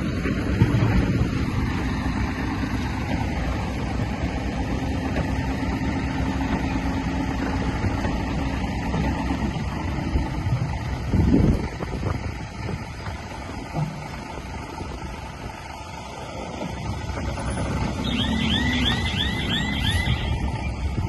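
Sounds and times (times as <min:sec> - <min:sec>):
bulldozer engine running: 0:00.0 - 0:21.0.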